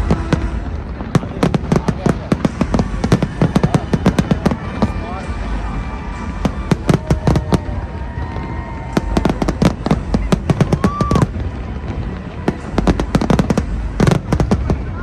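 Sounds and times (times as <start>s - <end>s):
fireworks cracking bangs: 0.0s - 15.0s.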